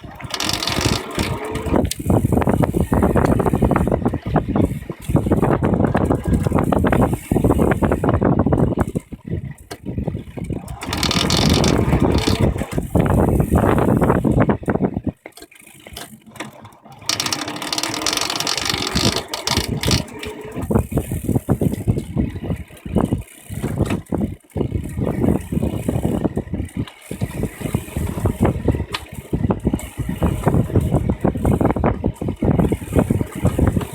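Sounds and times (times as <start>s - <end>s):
bicycle drivetrain rattling and clicking: 0.0s - 33.9s.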